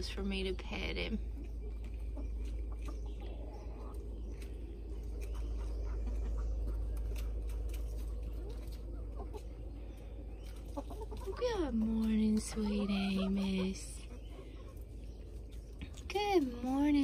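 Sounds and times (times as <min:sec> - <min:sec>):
hens clucking: 0:00.0 - 0:17.0
steady low rumble: 0:00.0 - 0:17.0.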